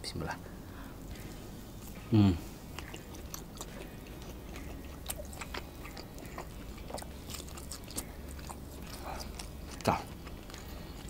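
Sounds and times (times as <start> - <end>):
person chewing steak: 1.1 - 11.0.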